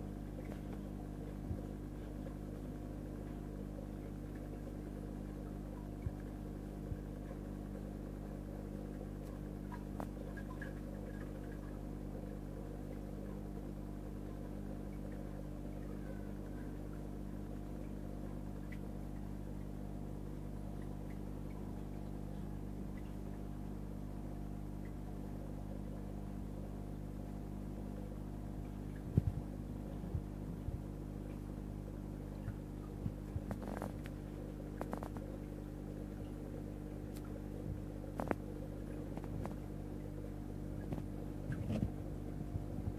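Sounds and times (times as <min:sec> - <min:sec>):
aquarium pumps humming: 0:00.0 - 0:42.9.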